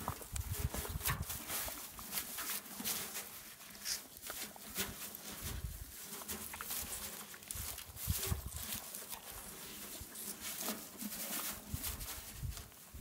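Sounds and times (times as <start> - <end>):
horse chewing hay: 0.0 - 13.0.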